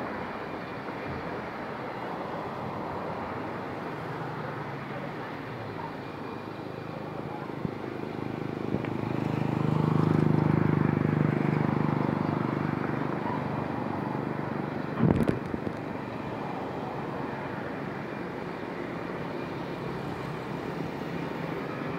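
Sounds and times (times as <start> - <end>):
jet engines idling: 0.0 - 21.9.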